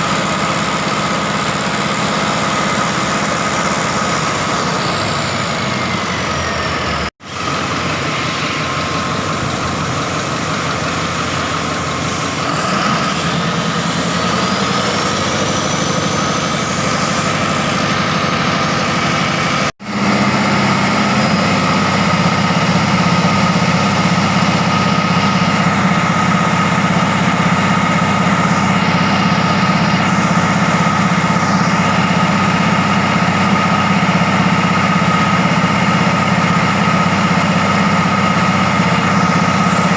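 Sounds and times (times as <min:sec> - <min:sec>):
diesel engine running: 0:00.0 - 0:39.9
rising whine: 0:00.0 - 0:39.9.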